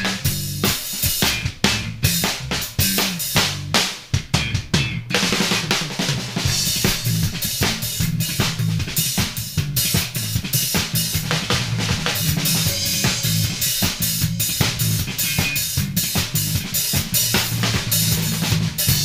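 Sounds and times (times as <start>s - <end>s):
bass guitar notes: 0.0s - 19.0s
drum kit playing funk: 0.0s - 19.0s.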